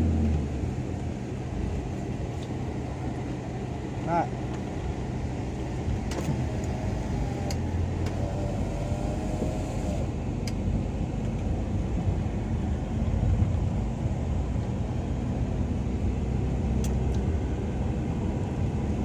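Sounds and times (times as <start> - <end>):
engine running with low hum: 0.0 - 19.0.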